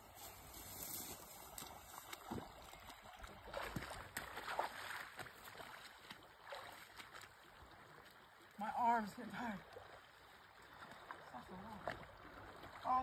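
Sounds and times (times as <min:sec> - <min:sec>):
shallow water splashing: 0:00.0 - 0:13.0
stream running: 0:00.0 - 0:13.0.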